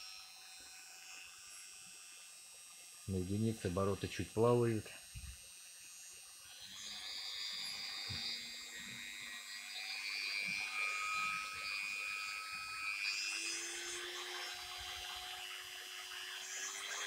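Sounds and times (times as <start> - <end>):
rotary tool motor whine: 0.0 - 17.0.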